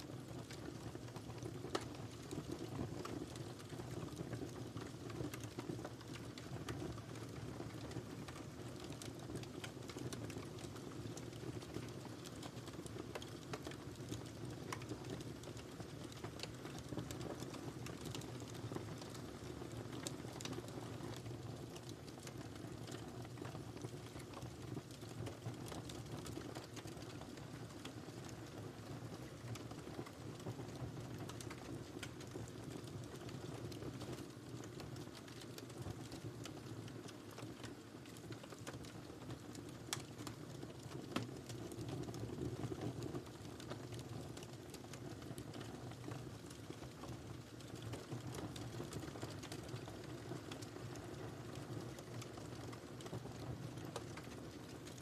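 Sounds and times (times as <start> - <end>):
fire rushing in fireplace: 0.0 - 55.0
wood crackling and popping: 0.0 - 55.0.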